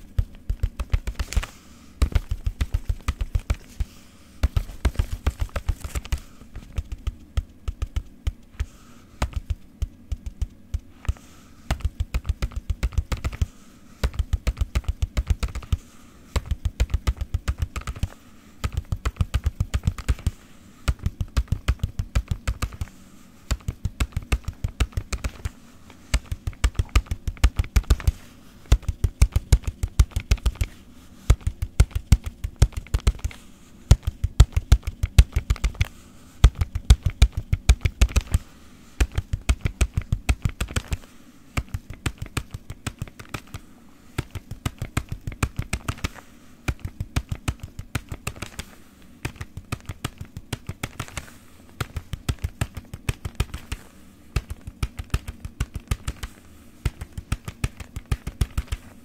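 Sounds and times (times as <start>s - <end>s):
rhythmic tapping with low thuds: 0.0s - 22.9s, 23.5s - 43.6s, 44.2s - 58.9s.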